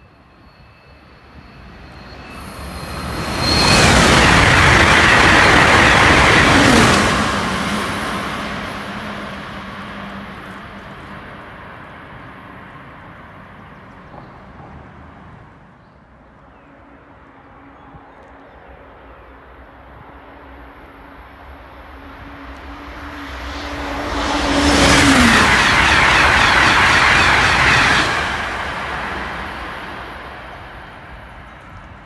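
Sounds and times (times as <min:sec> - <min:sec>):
high-speed train passing: 0:00.0 - 0:32.0.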